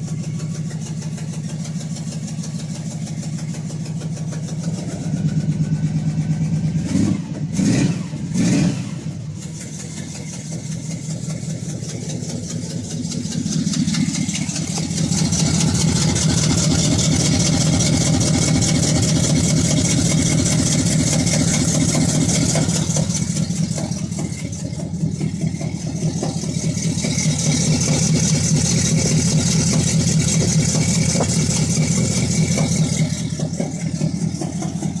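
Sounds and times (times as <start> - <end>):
car engine revving and idling: 0.0 - 35.0.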